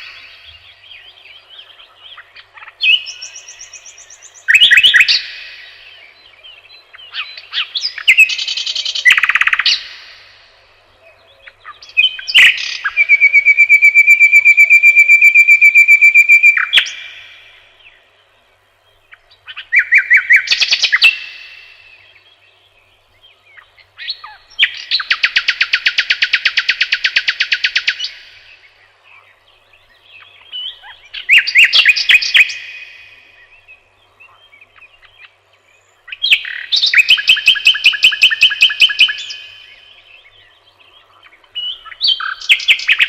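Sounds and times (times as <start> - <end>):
songbird trilling: 0.0 - 10.4, 11.0 - 43.0.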